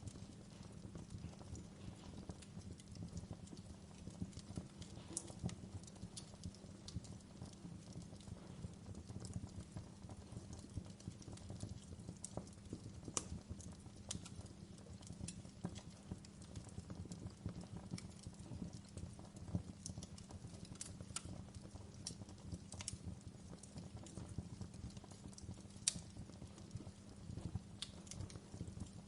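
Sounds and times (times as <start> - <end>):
burning logs crackling and popping: 0.0 - 29.0
fire rumbling: 0.0 - 29.0.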